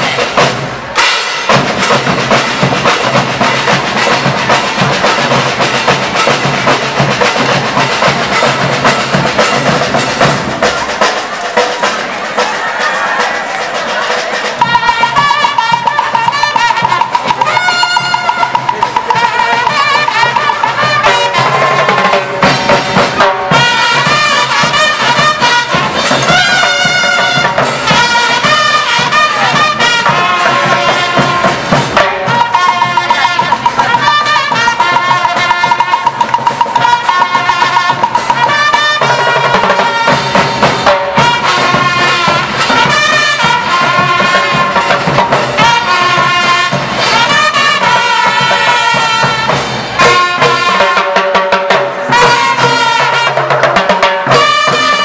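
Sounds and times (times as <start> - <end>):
bass drums: 0.0 - 51.0
cymbals: 0.0 - 55.0
snare drums: 0.0 - 55.0.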